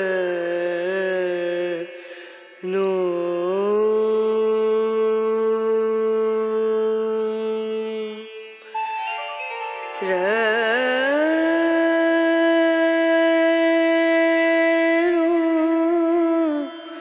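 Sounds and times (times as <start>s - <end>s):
long wavering devotional note: 2.6s - 17.0s.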